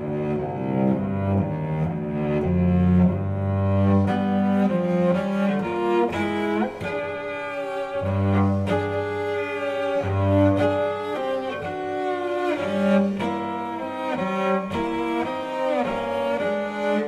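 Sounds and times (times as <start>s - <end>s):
solo cello bowed notes: 0.0s - 17.0s.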